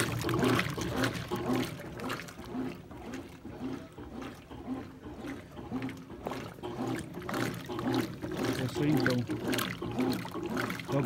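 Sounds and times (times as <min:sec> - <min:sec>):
low steady motor hum: 0:00.0 - 0:11.0
washing machine churning water: 0:00.0 - 0:11.0.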